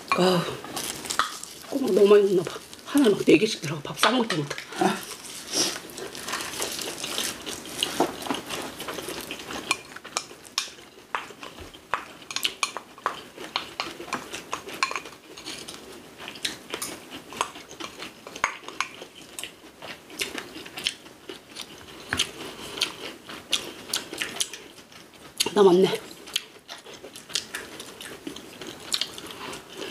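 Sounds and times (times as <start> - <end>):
people chewing: 0.0 - 3.8, 4.4 - 29.9.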